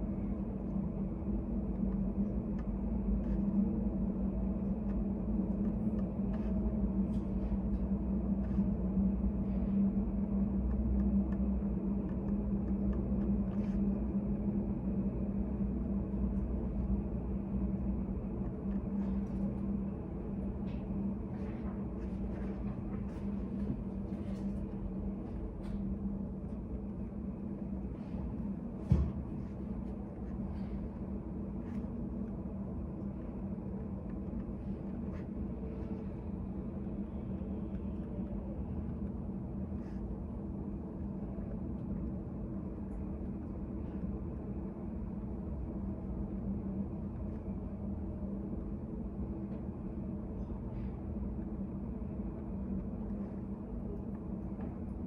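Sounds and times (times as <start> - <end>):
low room hum with tones: 0.0 - 55.0.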